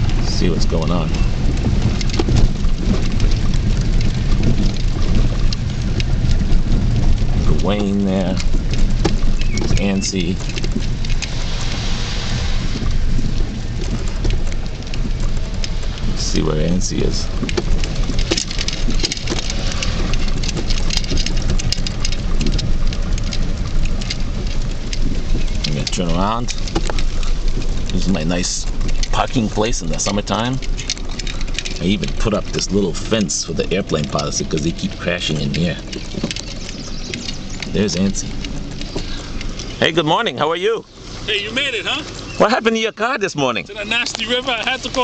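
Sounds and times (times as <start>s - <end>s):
low rumble of vehicle driving: 0.0s - 45.0s
rain pattering on a vehicle: 0.0s - 45.0s.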